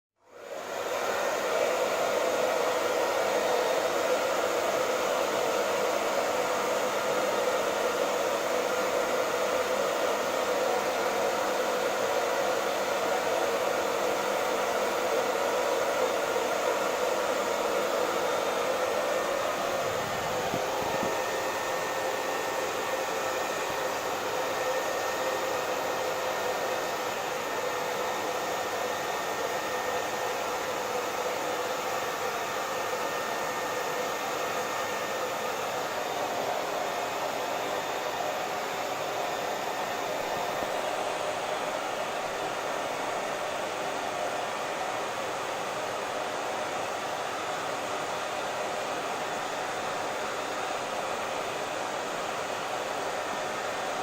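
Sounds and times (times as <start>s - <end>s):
hair dryer running: 0.2s - 54.0s.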